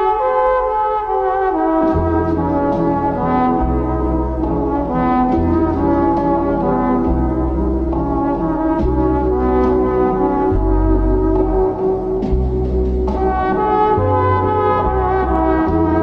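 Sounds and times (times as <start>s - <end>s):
instrumental music melody: 0.0s - 16.0s
deep bass line: 1.6s - 16.0s.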